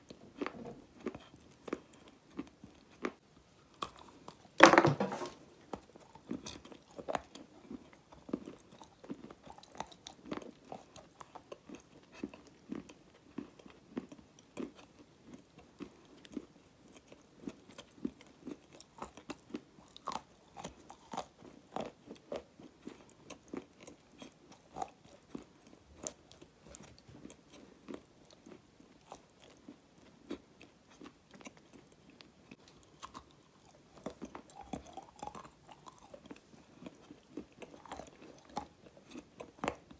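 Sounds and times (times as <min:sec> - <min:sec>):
chewing hard crunchy food: 0:00.1 - 0:39.9.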